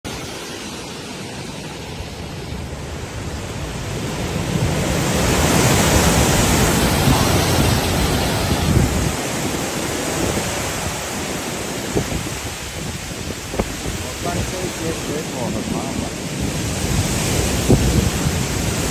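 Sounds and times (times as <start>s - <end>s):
strong wind buffeting microphone: 0.1s - 18.9s.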